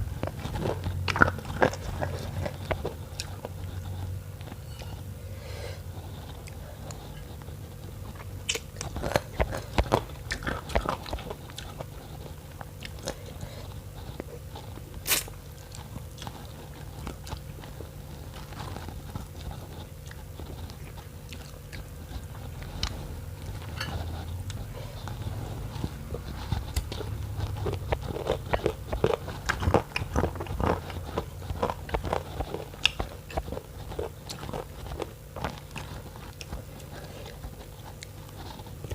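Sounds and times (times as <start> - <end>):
person chewing and biting: 0.0 - 5.1, 5.9 - 38.9
steady low hum: 0.0 - 38.9.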